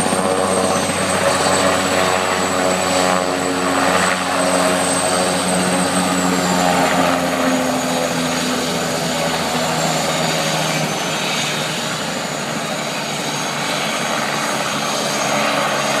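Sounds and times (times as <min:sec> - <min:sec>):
helicopter running: 0:00.0 - 0:16.0.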